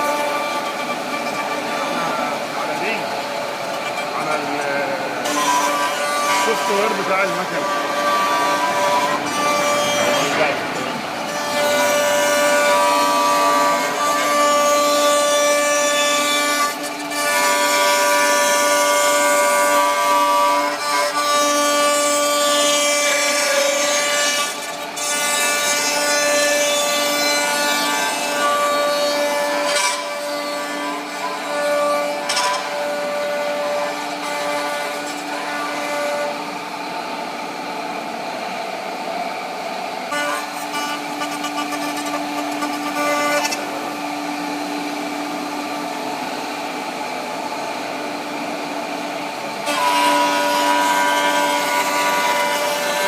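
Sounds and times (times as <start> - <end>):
wood router spindles whining: 0.0 - 53.0.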